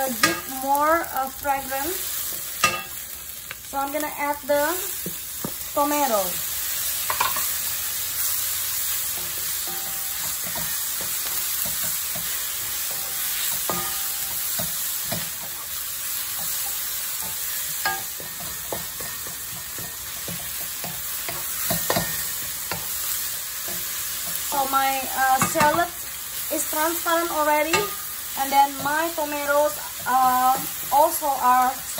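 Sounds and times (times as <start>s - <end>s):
vegetables sizzling in oil: 0.0s - 31.9s.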